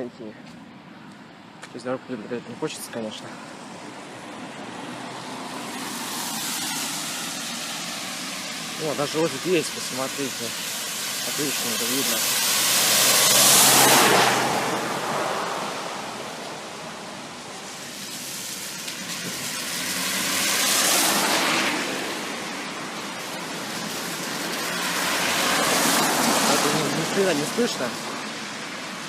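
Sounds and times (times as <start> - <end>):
cars passing with tyre hiss: 0.4 - 29.0.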